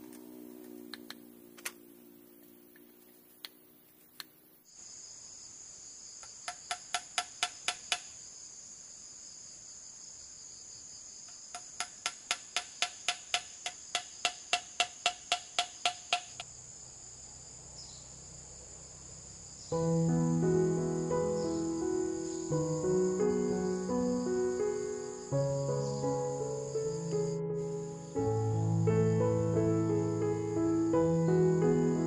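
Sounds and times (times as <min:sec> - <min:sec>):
insects buzzing: 0:00.0 - 0:32.0.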